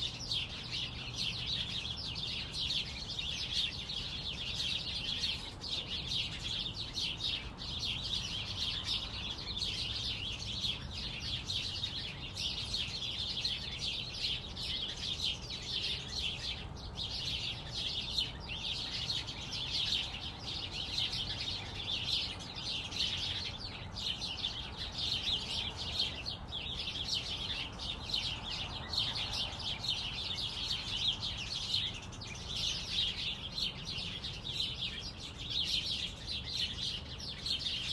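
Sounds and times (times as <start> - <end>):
flock of birds chirping: 0.0 - 37.9.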